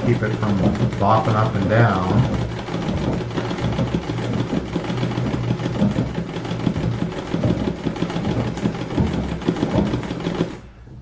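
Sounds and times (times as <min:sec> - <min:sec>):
sewing machine clattering: 0:00.0 - 0:10.8.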